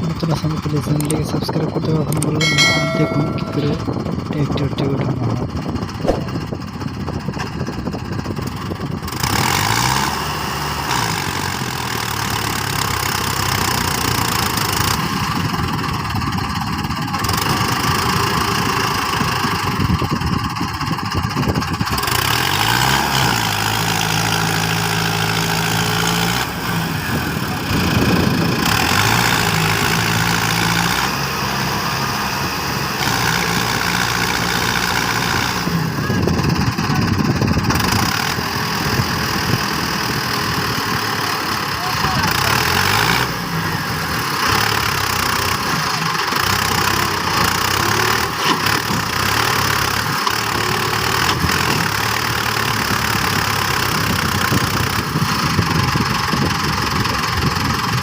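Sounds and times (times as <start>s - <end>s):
tractor diesel engine revving: 3.8s - 58.0s.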